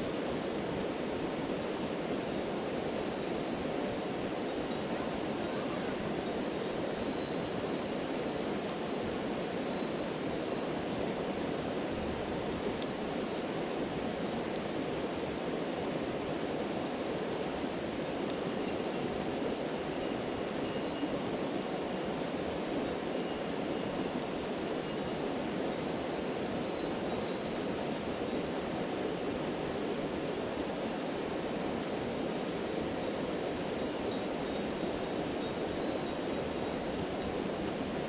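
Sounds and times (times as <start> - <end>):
campfire crackling: 0.0 - 20.6, 21.2 - 24.6, 27.4 - 38.0
stream rushing: 0.0 - 38.0.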